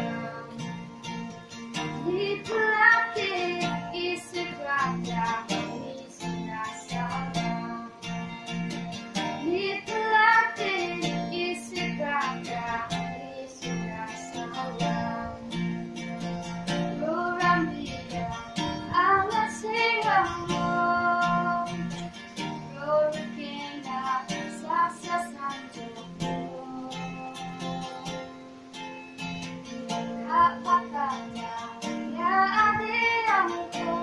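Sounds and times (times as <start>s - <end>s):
girl singing folk song: 0.0s - 34.0s
strummed acoustic guitar: 0.0s - 34.0s.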